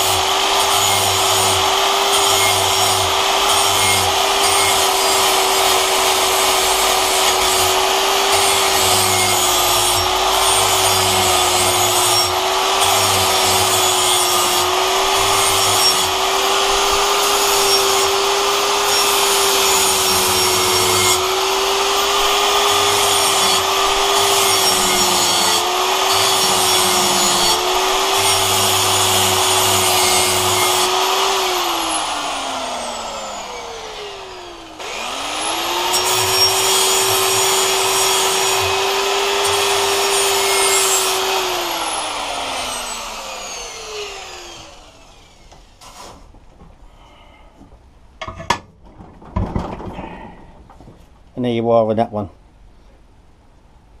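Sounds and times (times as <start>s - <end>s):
angle grinder grinding steel: 0.0s - 46.2s.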